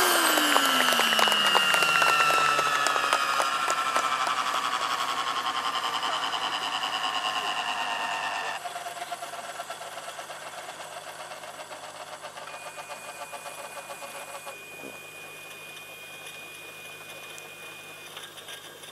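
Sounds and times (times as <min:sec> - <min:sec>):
model helicopter turbine winding down: 0:00.0 - 0:18.9
faint thin whine: 0:00.1 - 0:18.9.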